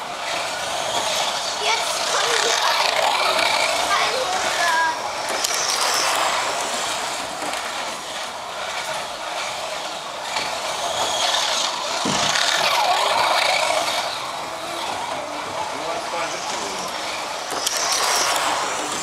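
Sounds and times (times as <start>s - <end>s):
small electric motors whirring: 0.0s - 19.0s
toy cars rattling on plastic track: 0.0s - 19.0s.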